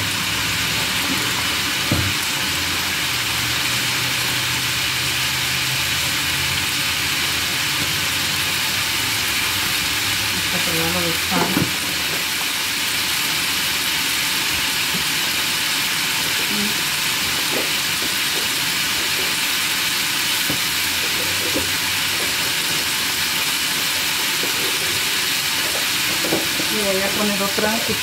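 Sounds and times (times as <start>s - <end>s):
vegetables sizzling in a frying pan: 0.0s - 28.0s.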